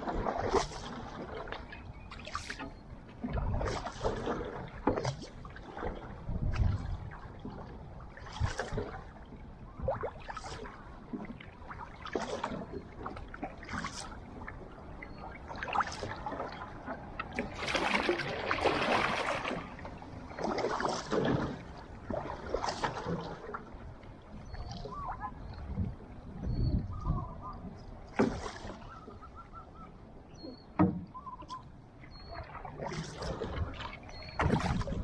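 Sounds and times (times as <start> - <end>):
paddles splashing into water: 0.0 - 23.8, 27.6 - 29.1, 30.7 - 35.0
rush of water: 0.0 - 23.8, 30.4 - 35.0.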